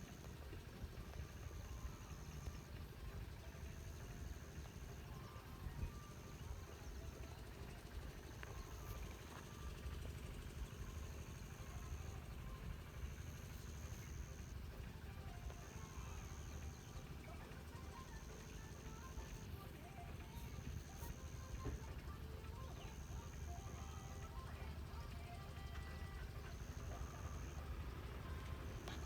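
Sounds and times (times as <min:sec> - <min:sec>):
faint bird chirps: 0:01.0 - 0:29.0.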